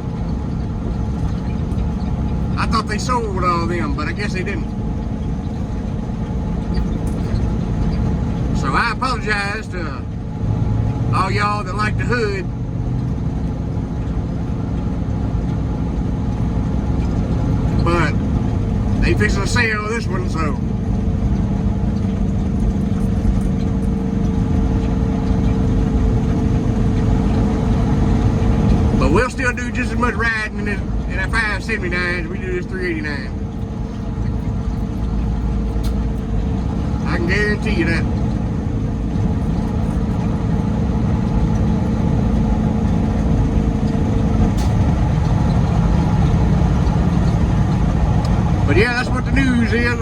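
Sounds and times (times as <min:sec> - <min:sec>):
constant hum: 0:00.0 - 0:50.0
road rumble: 0:00.0 - 0:50.0
truck engine drone: 0:00.0 - 0:50.0.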